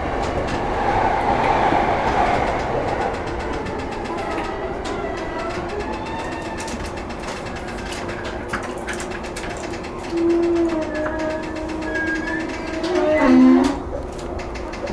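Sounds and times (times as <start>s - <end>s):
electric train whine: 0.0s - 14.9s
faint rail clicks: 0.0s - 14.9s.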